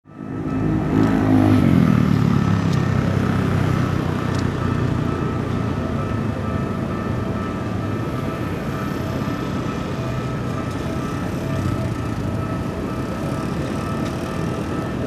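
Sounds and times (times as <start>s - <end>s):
steady traffic rumble: 0.1s - 15.0s.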